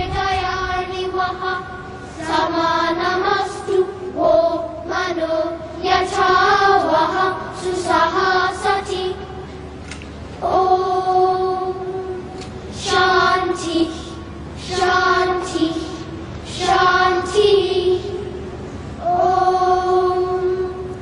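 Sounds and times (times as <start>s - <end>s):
children's choir chanting: 0.0s - 9.5s, 10.4s - 21.0s.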